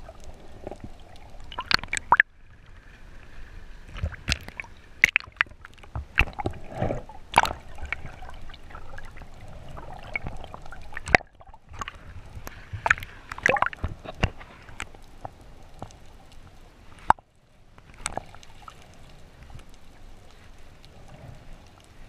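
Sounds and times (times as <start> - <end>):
muffled water sloshing and gurgling: 0.0 - 22.0.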